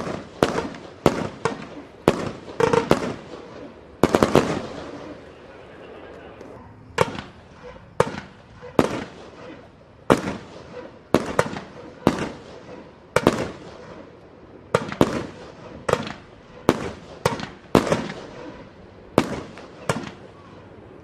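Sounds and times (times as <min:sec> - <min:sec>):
fireworks bangs with crackle: 0:00.0 - 0:05.5, 0:06.8 - 0:20.4.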